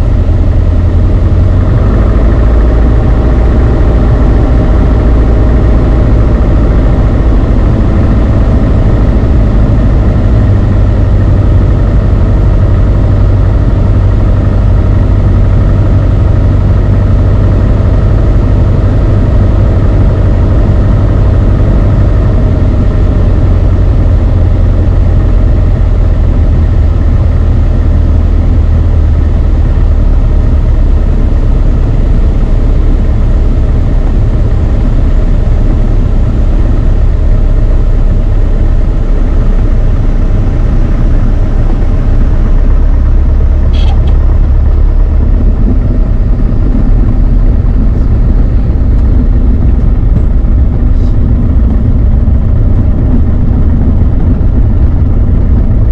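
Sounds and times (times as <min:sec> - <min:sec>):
airplane engine droning: 0:00.0 - 0:55.9.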